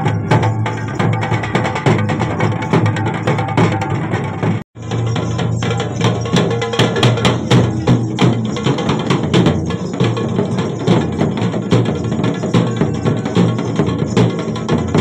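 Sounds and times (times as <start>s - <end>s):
music with driving drum beat: 0.0s - 15.0s.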